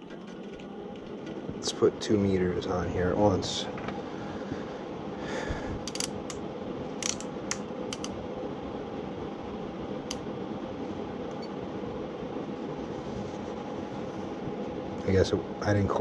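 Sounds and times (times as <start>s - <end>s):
furnace fan running: 0.0s - 16.0s.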